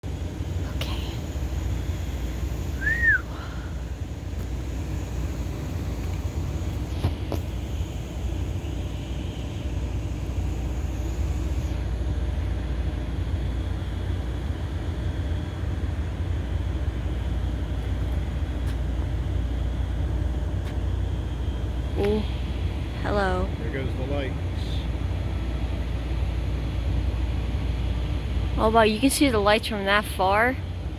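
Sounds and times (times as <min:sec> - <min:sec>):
low outdoor background rumble: 0:00.0 - 0:30.9.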